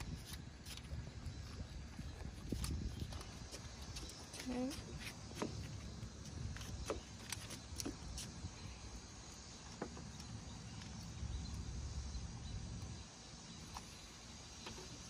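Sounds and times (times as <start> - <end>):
faint insect hum: 0.0 - 15.0.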